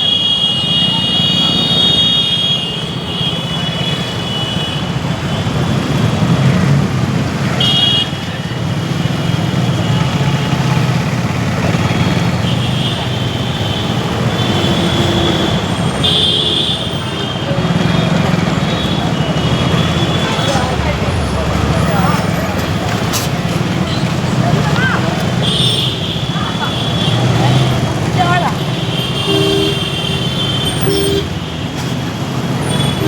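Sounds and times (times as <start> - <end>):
vehicle horns honking: 0.0 - 6.1, 7.4 - 8.8, 11.7 - 33.0
motorcycle engine and road rumble: 0.0 - 33.0.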